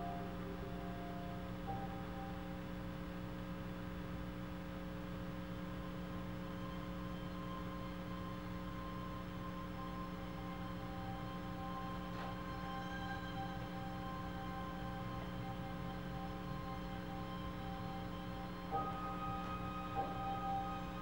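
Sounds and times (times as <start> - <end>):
faint high held tones: 0.0 - 21.0
steady electrical hum: 0.0 - 21.0.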